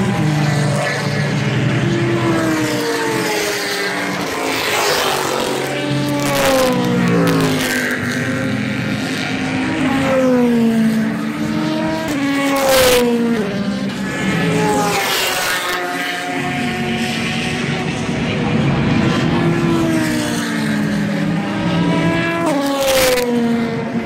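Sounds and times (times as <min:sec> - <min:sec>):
race cars passing at speed: 0:00.0 - 0:24.0.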